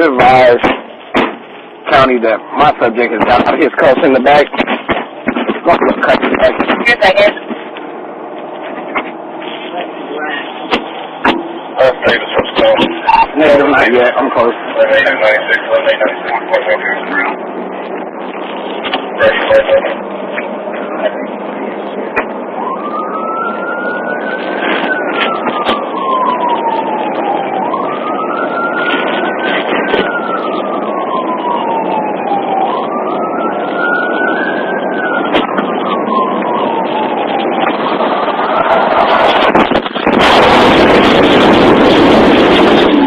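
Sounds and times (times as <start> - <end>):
police siren wailing: 0.0 - 43.0
road and engine noise: 0.0 - 43.0.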